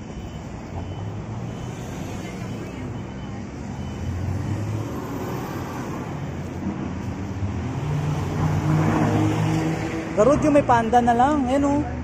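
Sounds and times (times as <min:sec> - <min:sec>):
low traffic rumble and hum: 0:00.0 - 0:12.0.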